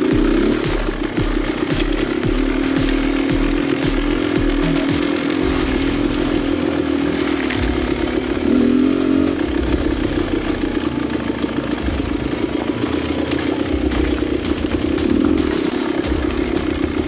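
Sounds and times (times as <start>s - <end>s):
two-stroke dirt bike engine: 0.0s - 17.0s.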